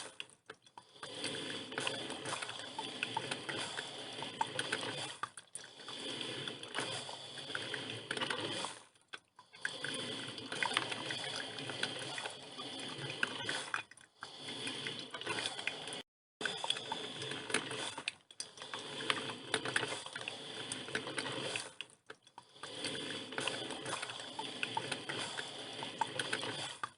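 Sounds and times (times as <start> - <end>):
coffee machine gurgling: 0.0 - 26.9.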